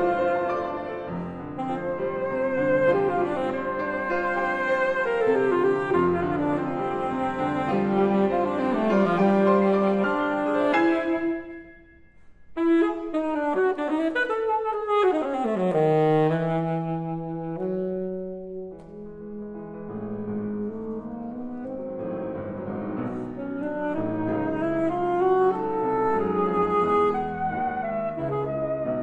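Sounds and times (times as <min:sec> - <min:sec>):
alto saxophone: 0:00.0 - 0:29.0
grand piano: 0:00.0 - 0:29.0.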